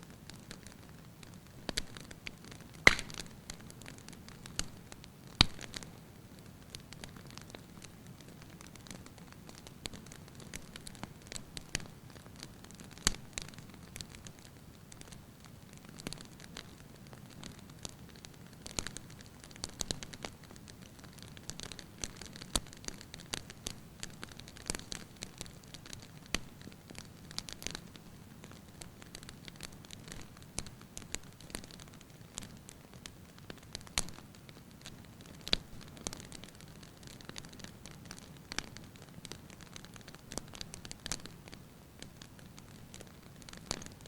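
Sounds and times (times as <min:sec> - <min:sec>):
firewood crackling and popping: 0:00.0 - 0:44.0.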